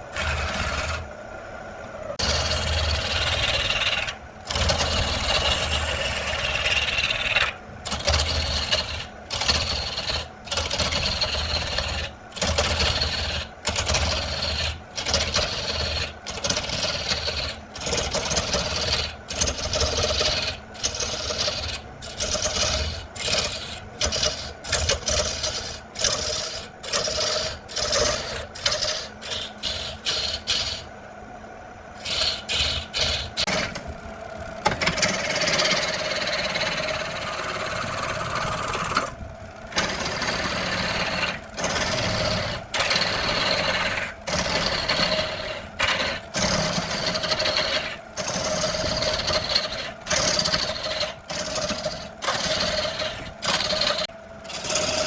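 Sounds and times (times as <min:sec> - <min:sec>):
tool scraping on wood: 0:00.0 - 0:01.0, 0:02.2 - 0:30.9, 0:32.0 - 0:33.9, 0:34.6 - 0:39.1, 0:39.7 - 0:55.0.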